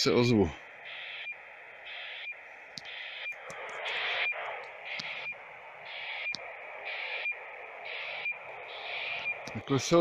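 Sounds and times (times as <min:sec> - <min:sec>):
hissy data noise from radio: 0:00.0 - 0:10.0.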